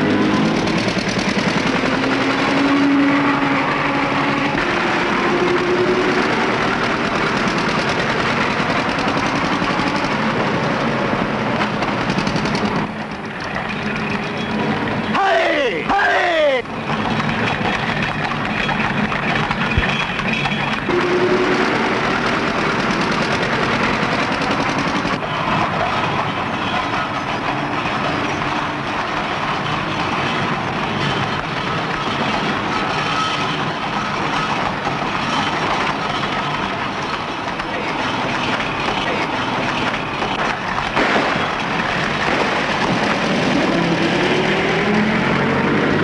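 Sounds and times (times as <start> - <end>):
open motor car rattling: 0.0 - 15.4, 16.6 - 46.0
carriage wheels on cobblestones: 0.0 - 46.0.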